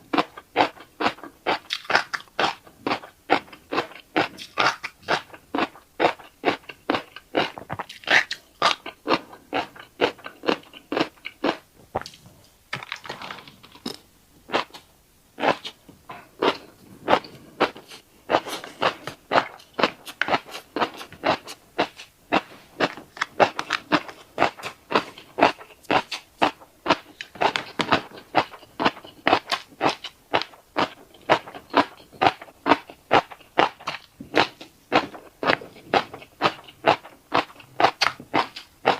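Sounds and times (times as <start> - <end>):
person chewing crisp clicks: 0.1 - 13.0, 13.6 - 38.9.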